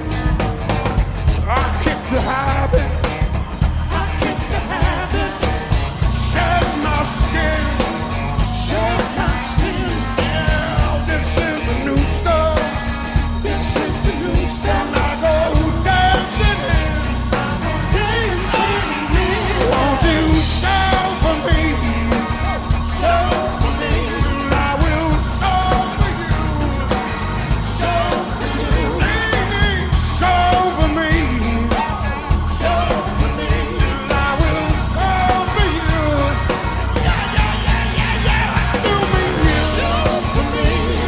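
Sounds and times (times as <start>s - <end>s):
live rock band playing: 0.0s - 41.0s
steady drum beat: 0.0s - 41.0s
person singing: 1.3s - 41.0s.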